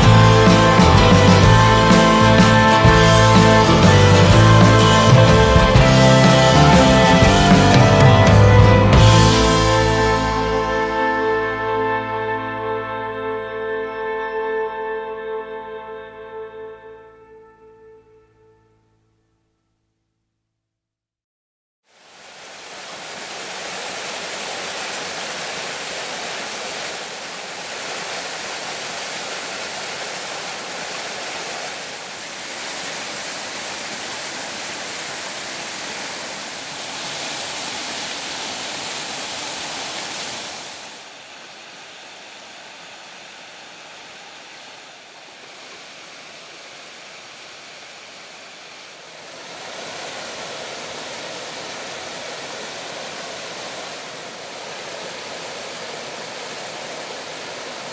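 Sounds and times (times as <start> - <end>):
waterfall rushing over rock: 0.0 - 10.5, 21.9 - 57.9.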